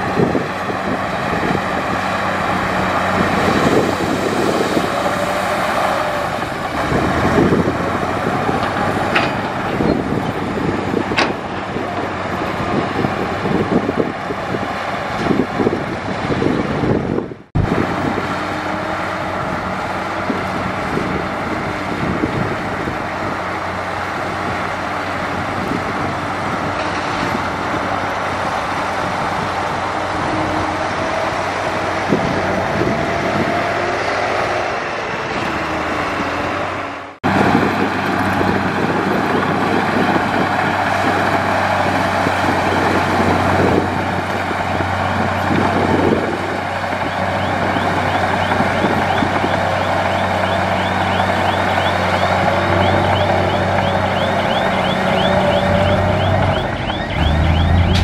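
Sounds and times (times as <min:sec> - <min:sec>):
diesel machinery running: 0:00.0 - 0:58.0.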